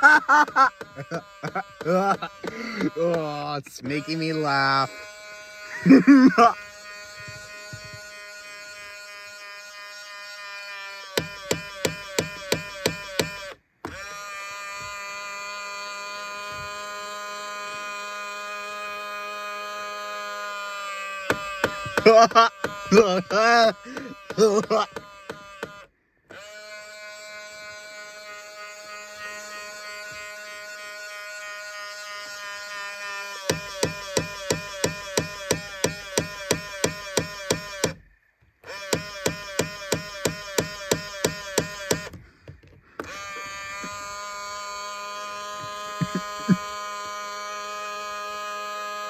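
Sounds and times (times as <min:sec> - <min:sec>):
mirror motor whining: 0:00.0 - 0:49.0.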